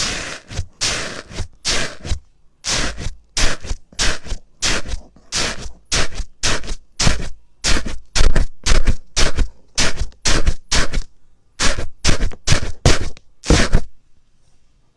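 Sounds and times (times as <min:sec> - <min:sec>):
slime squishing by hand: 0:00.0 - 0:13.9.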